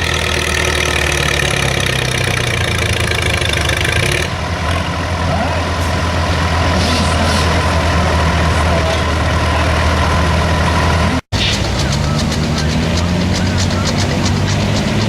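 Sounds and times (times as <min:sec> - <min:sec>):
heavy tractor engine running: 0:00.0 - 0:15.0.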